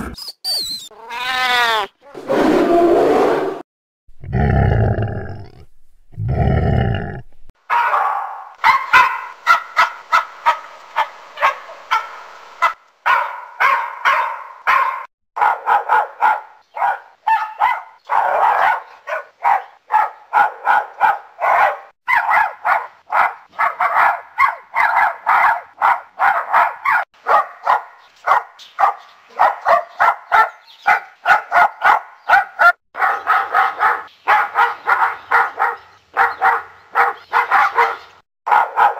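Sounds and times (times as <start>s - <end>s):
dog barking: 7.7s - 38.9s.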